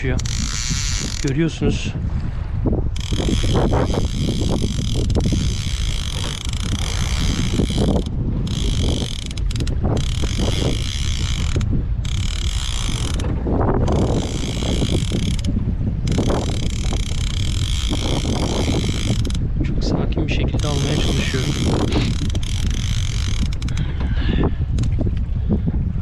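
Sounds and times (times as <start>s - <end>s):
fishing reel clicking: 0.0s - 1.6s, 2.9s - 19.5s, 20.5s - 23.9s, 24.7s - 25.1s
sea noise: 0.0s - 26.0s
wind: 0.0s - 26.0s.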